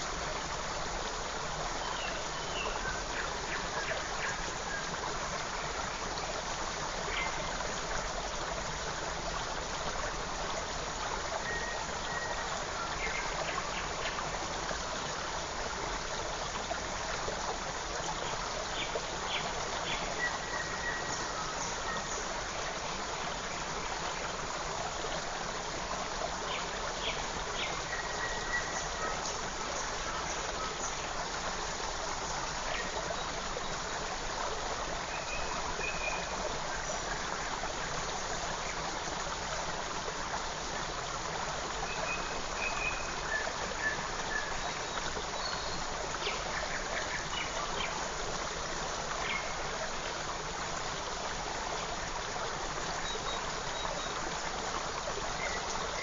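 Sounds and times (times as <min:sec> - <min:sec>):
creek running over stones: 0:00.0 - 0:56.0.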